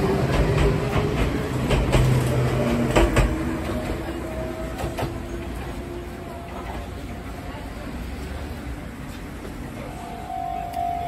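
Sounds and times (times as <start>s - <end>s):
electric train running hum: 0.0s - 11.0s.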